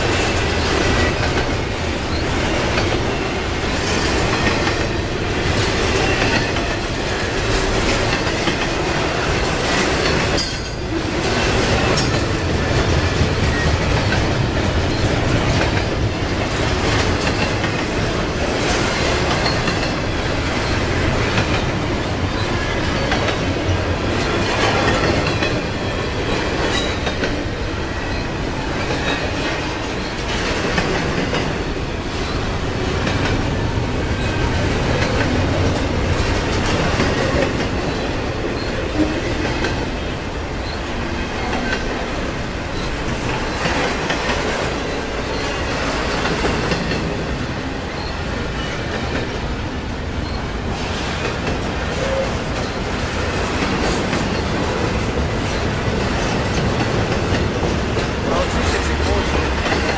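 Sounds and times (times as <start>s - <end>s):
freight train rumbling past: 0.0s - 59.9s
wheels clattering over rail joints: 0.0s - 59.9s.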